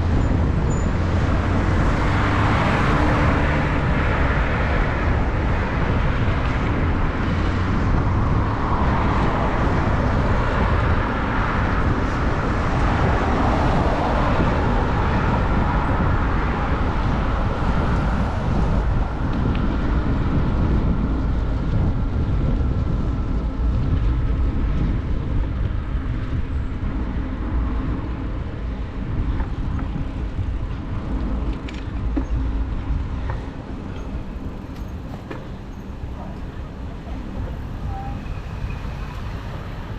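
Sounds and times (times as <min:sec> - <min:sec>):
road traffic: 0:00.0 - 0:39.9
wind rush on microphone: 0:00.0 - 0:39.9.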